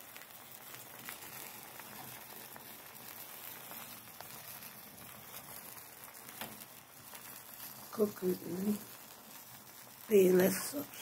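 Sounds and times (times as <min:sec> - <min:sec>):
liquid bubbling in a pan: 0:00.0 - 0:11.0.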